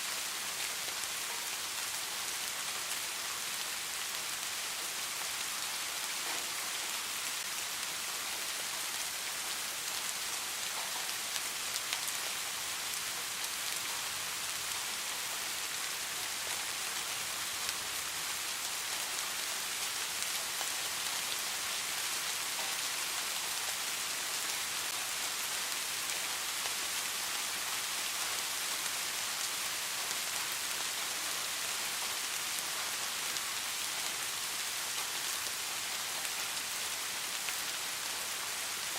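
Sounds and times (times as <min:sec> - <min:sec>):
rain drops ticking: 0:00.2 - 0:38.9.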